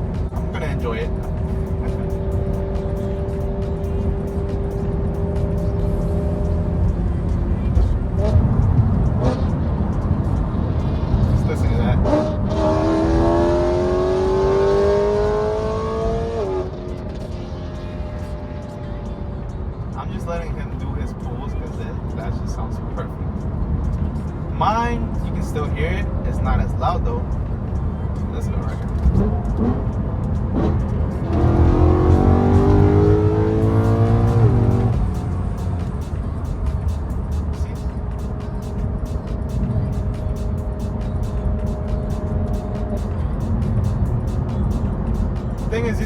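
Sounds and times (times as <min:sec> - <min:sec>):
car exhaust under hard acceleration: 0:00.0 - 0:46.0.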